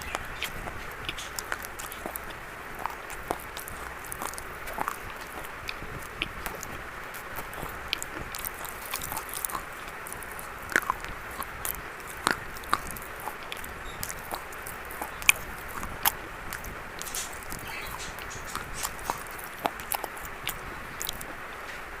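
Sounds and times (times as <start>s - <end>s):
person chewing crunchy food: 0.0s - 21.4s.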